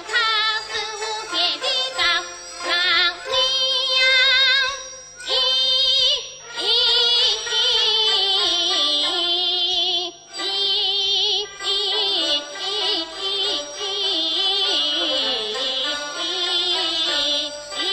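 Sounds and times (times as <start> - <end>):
high opera singing voice: 0.0 - 17.9.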